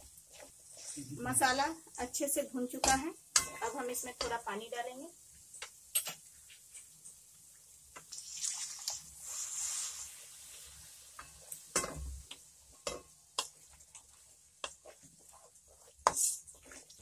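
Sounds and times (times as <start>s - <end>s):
water sizzling in hot pan: 0.0s - 17.0s.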